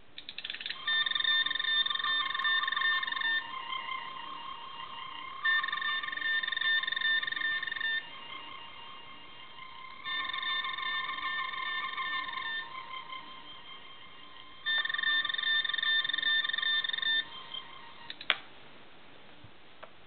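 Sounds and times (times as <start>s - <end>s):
electronic warbling toy scanner: 0.4s - 18.2s.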